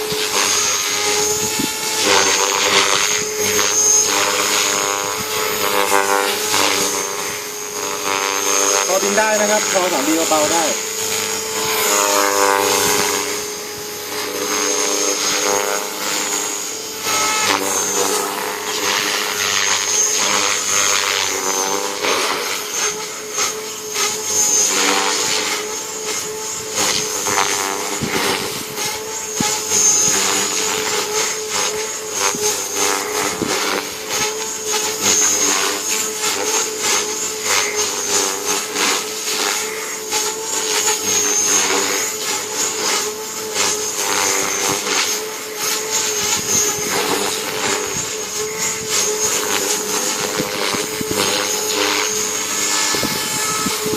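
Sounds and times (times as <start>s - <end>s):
rc helicopter motor whine: 0.0s - 53.9s.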